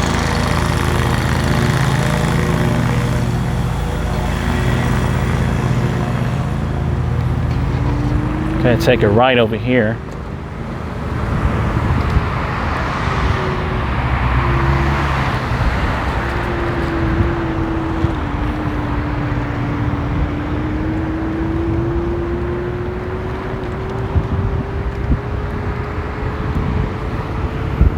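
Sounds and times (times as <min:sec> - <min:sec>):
electric scooter motor hum: 0:00.0 - 0:27.9
tyre and wind noise: 0:00.0 - 0:27.9.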